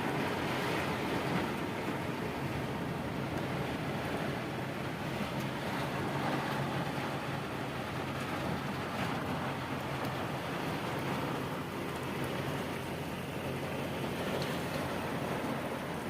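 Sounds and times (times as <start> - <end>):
heavy rain in strong wind: 0.0 - 16.0.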